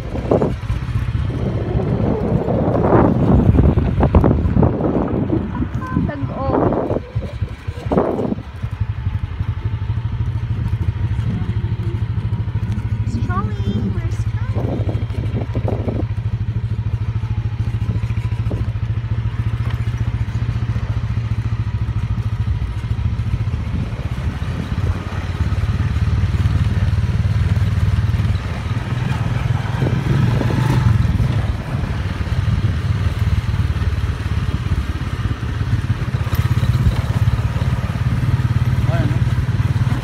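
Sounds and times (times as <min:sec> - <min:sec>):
small motorcycle engine running: 0:00.0 - 0:40.0.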